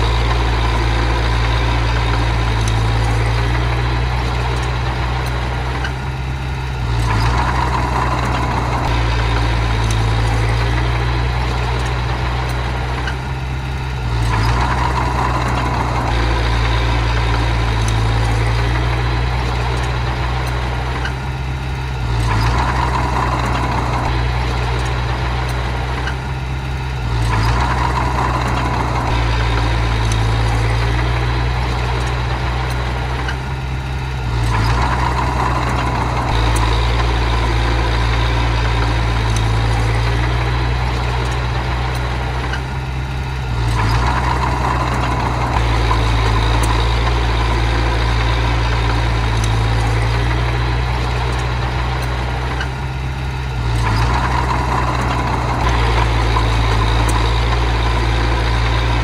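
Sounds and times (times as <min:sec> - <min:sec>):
bulldozer engine running: 0:00.0 - 0:59.0.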